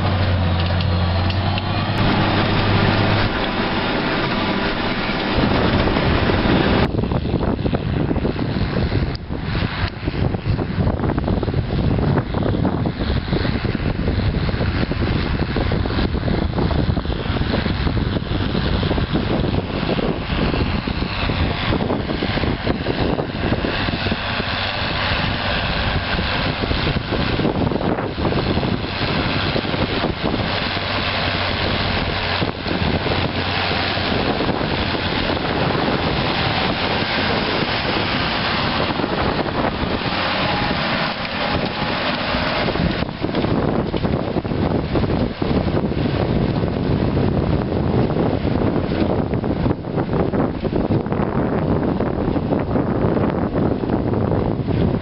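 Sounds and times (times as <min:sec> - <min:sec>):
tractor diesel engine under load: 0:00.0 - 0:55.0
wind buffeting microphone: 0:00.0 - 0:55.0.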